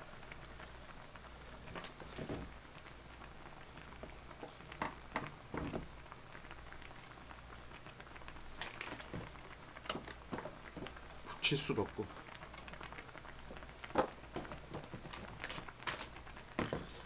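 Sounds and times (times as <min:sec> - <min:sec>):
pot bubbling at a boil: 0:00.0 - 0:17.0.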